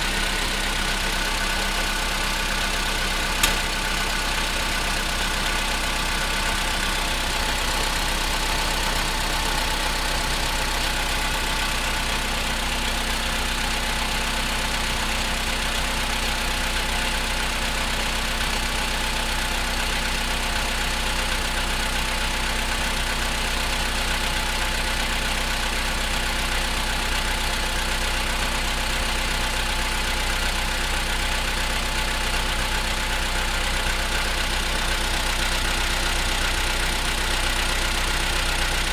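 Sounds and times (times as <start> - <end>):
car engine idling with knocking: 0.0 - 38.9.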